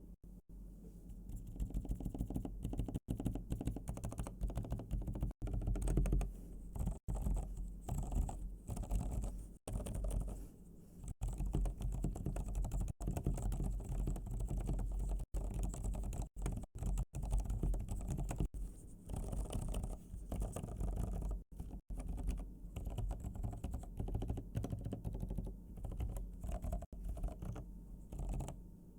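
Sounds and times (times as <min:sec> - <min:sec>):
muffled keyboard typing: 0:01.3 - 0:10.4, 0:11.0 - 0:28.6.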